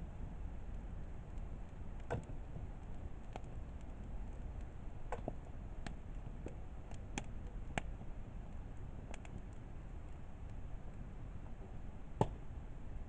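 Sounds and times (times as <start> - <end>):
burning fire rustle: 0.0 - 13.0
campfire crackling and popping: 0.0 - 13.0.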